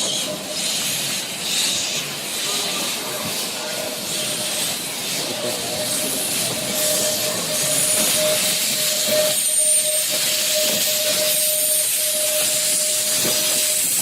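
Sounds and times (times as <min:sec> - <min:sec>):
steam locomotive hissing steam: 0:00.0 - 0:14.0.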